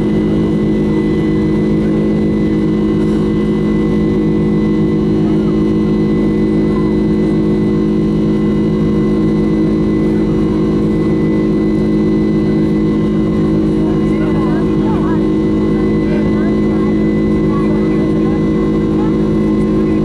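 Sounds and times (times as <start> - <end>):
jet engines droning in cabin: 0.0 - 20.0.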